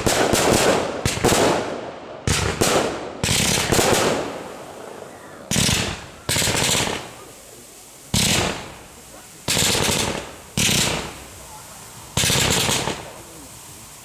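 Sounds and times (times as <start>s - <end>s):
firework shells bursting with crackle: 0.0s - 14.0s.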